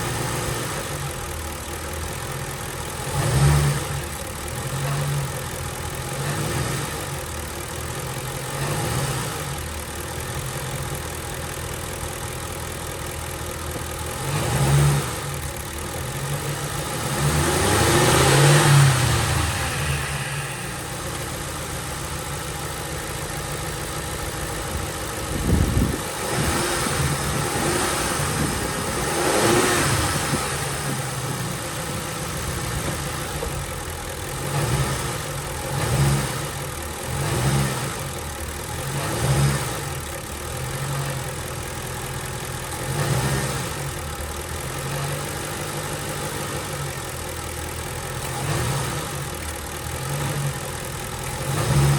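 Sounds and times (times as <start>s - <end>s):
car engine revving: 1.9s - 51.9s.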